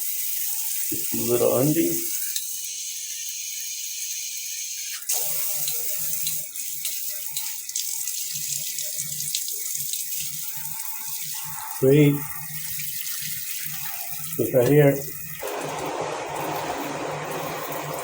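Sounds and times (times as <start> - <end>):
water spattering: 0.0 - 2.7, 4.9 - 18.0
shower spraying water: 0.0 - 18.0.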